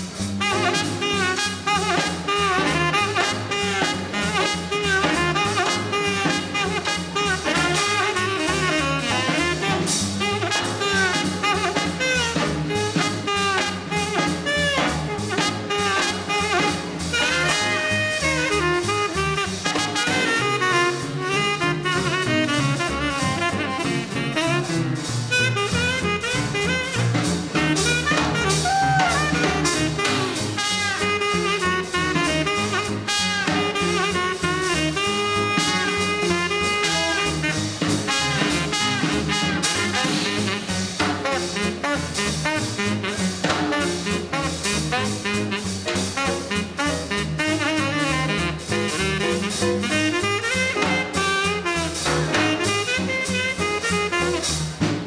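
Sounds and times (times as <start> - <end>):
drum kit beat: 0.0 - 55.0
saxophone and trumpet melody: 0.0 - 55.0.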